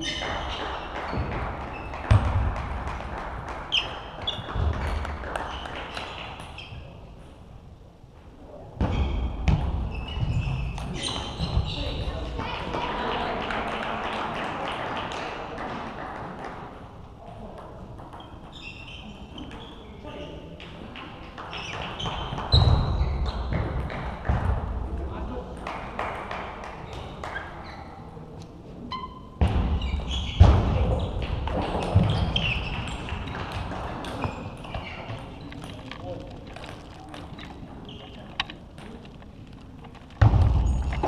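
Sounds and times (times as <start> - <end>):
table tennis balls bouncing: 0.0 - 6.9, 8.8 - 15.2, 16.2 - 19.8, 20.6 - 27.5, 29.4 - 41.0.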